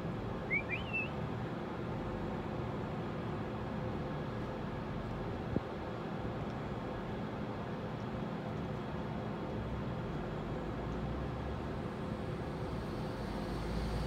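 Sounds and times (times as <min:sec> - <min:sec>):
low mechanical hum and rumble: 0:00.0 - 0:14.0.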